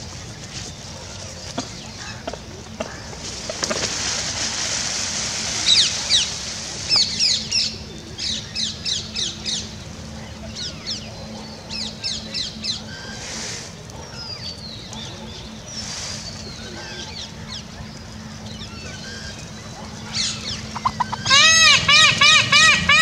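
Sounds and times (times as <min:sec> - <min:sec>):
birds chirping: 0:00.0 - 0:03.8, 0:05.6 - 0:23.0.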